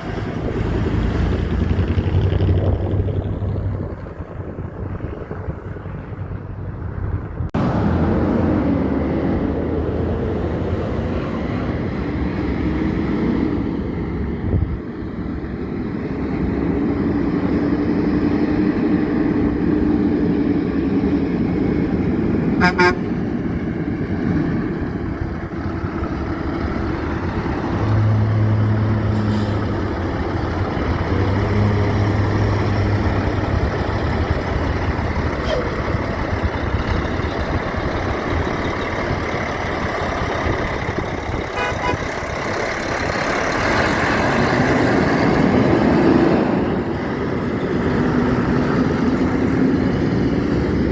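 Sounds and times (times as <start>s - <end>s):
heavy trucks driving past: 0.0s - 50.9s.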